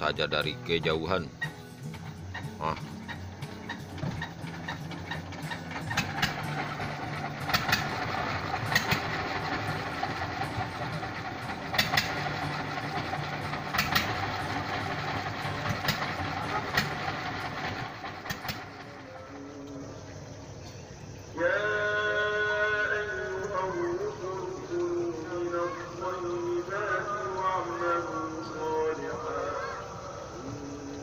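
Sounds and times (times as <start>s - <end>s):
boat engine idling: 0.0s - 31.0s.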